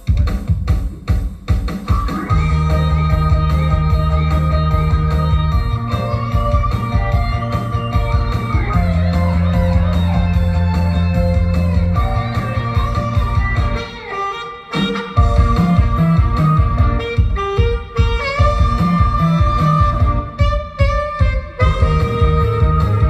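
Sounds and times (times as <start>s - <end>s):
steady drum beat: 0.0s - 13.9s, 14.8s - 23.0s
bass: 0.0s - 14.0s, 14.8s - 23.0s
electric guitar: 1.9s - 23.0s.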